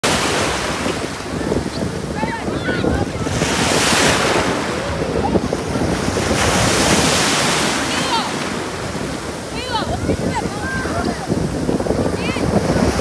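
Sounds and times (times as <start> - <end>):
small waves breaking in surf: 0.0 - 13.0
wind buffeting microphone: 0.0 - 13.0.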